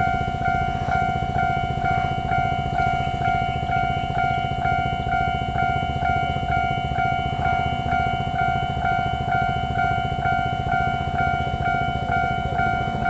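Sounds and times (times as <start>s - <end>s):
level-crossing warning bell: 0.0s - 13.0s.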